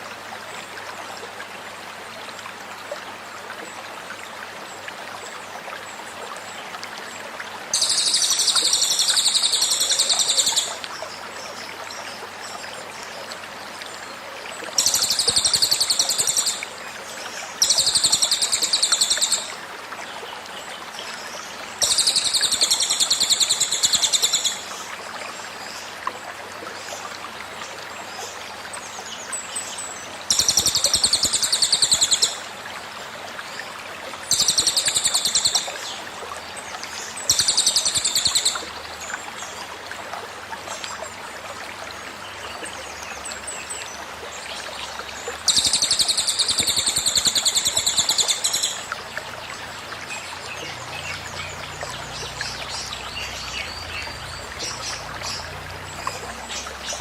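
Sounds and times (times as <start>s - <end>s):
flowing stream: 0.0s - 57.0s.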